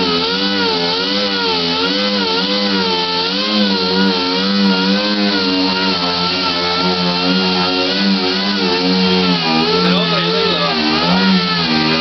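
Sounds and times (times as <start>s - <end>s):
power tool on sheet metal: 0.0s - 12.0s.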